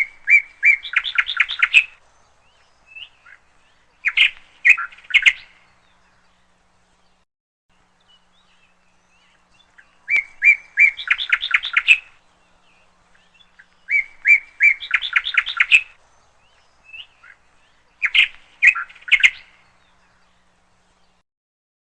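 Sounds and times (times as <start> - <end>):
songbird chirping: 0.0 - 21.2.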